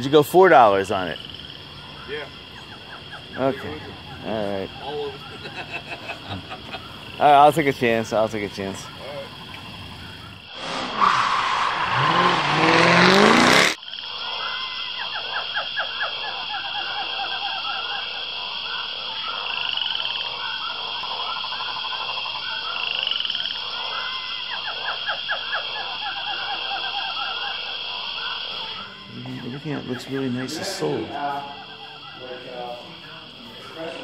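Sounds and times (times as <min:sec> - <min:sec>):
frogs croaking: 0:00.0 - 0:34.0.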